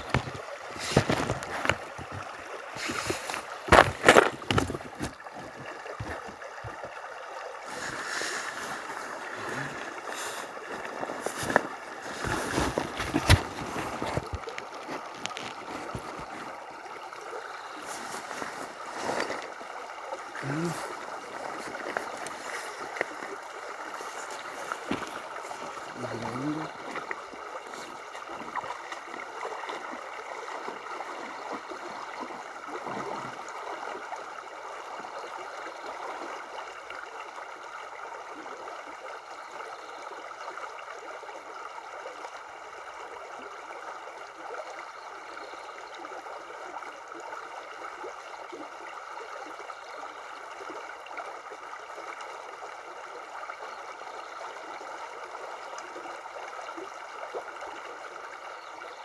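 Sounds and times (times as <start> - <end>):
river babbling over stones: 0.0 - 59.0.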